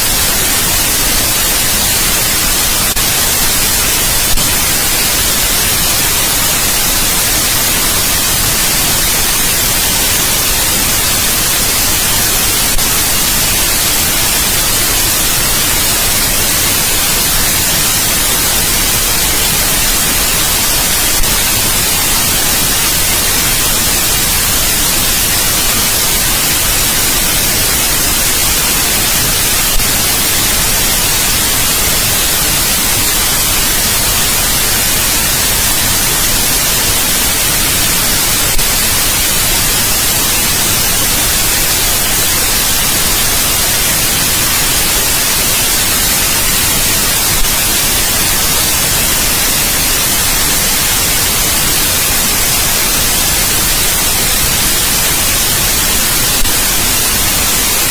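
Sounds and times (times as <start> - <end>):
loud white noise hiss: 0.0 - 57.9.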